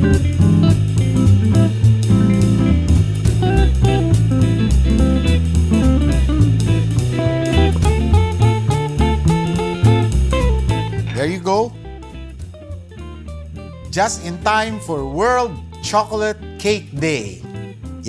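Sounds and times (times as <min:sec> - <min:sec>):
drum kit beat: 0:00.0 - 0:18.0
guitar: 0:00.0 - 0:18.0.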